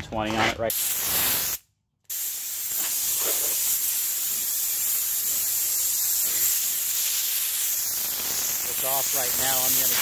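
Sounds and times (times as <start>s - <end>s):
compressed air hissing: 0.7s - 10.0s.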